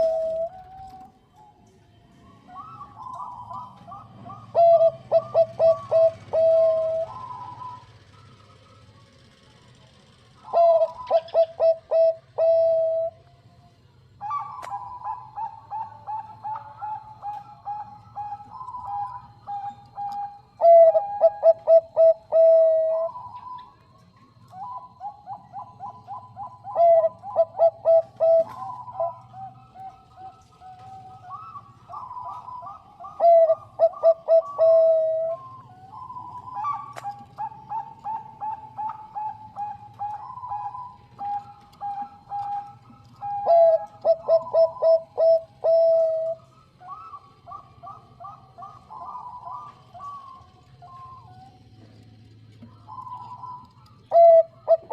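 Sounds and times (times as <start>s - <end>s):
dove cooing: 0.0s - 13.3s, 14.1s - 54.9s.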